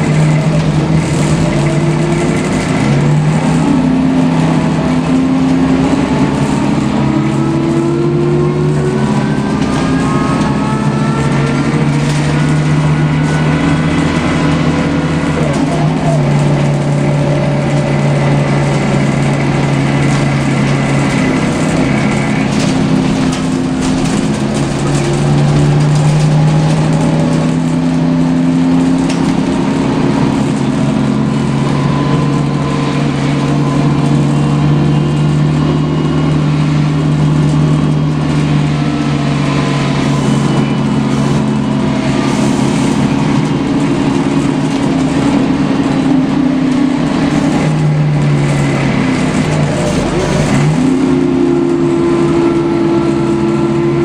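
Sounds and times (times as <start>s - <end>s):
bus engine drone: 0.0s - 54.0s
engine whine rising and falling: 0.0s - 54.0s.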